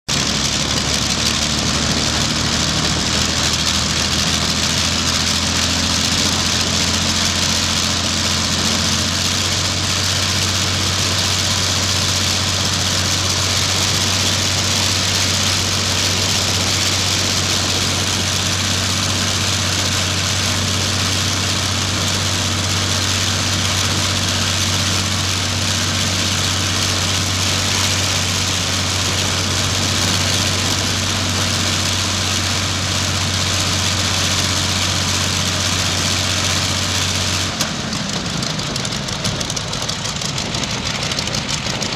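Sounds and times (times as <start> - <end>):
piston aero engine idling: 0.1 - 41.9.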